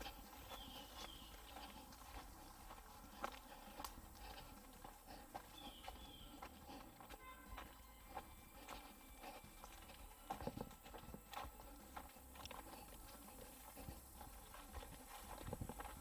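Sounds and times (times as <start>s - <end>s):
footsteps on dirt and leaves: 0.0s - 16.0s.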